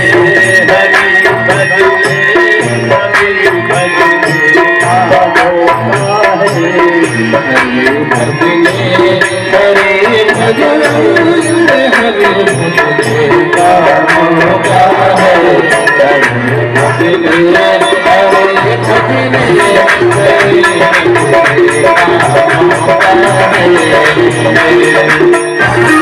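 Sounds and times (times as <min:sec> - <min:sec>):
hand drum rhythm: 0:00.0 - 0:26.0.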